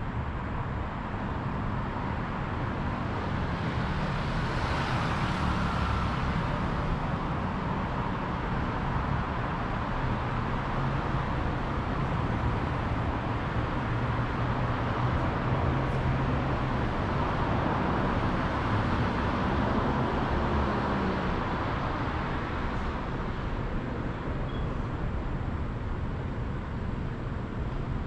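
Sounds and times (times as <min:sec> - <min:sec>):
city street traffic: 0:00.0 - 0:28.0.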